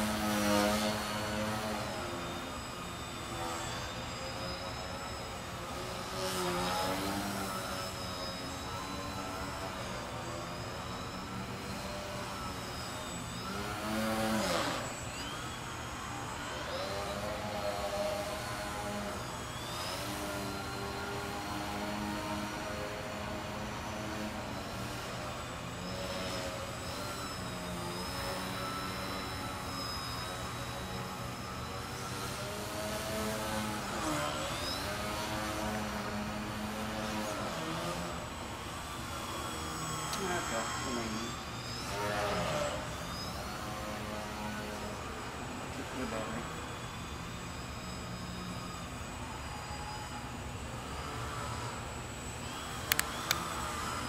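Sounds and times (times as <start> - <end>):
model plane motor buzzing whine: 0.0 - 54.0.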